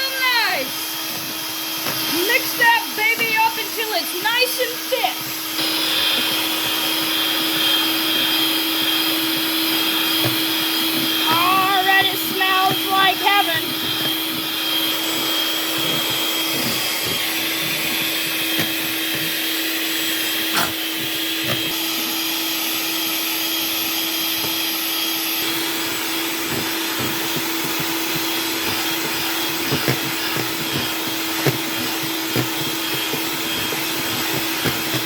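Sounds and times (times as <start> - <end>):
electric mixer motor whine: 0.0 - 35.0.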